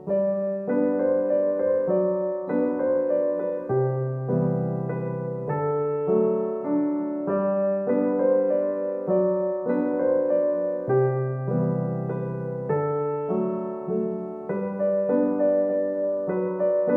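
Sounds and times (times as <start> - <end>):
gentle piano melody: 0.0 - 16.9.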